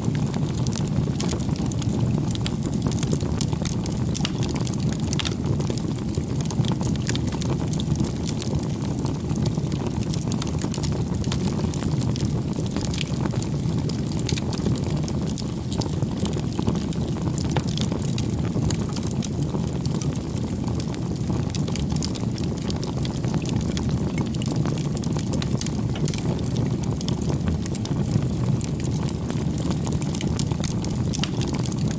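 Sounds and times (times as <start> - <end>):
fire crackles and pops: 0.0 - 31.9
low rumble of flames: 0.0 - 31.9.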